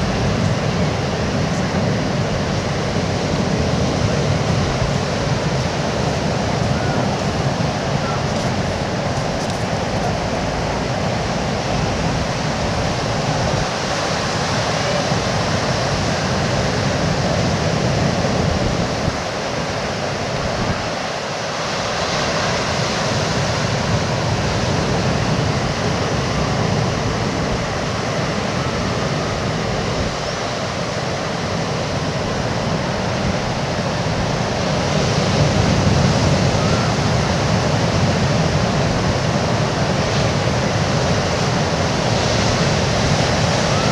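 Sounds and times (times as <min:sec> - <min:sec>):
ocean surf on beach: 0:00.0 - 0:43.9
wind: 0:00.0 - 0:43.9.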